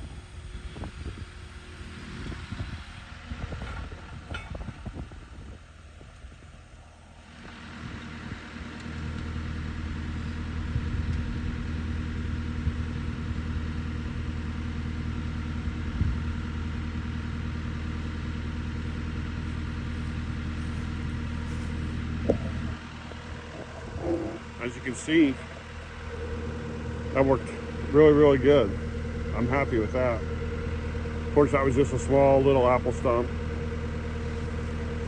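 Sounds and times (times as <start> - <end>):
loader engine running: 0.0 - 35.0.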